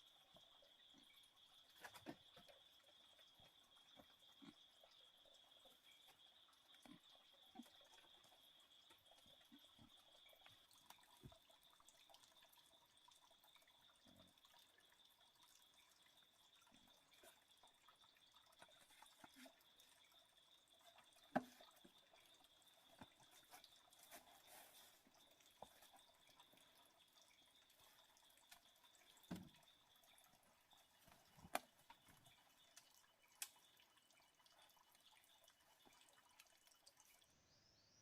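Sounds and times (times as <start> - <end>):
faint drip-like taps: 0.3 - 12.6, 15.5 - 36.9.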